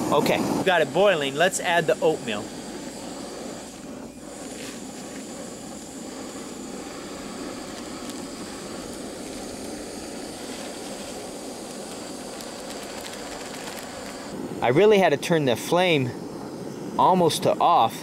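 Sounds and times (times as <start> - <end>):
stove flame rushing: 0.0 - 18.0.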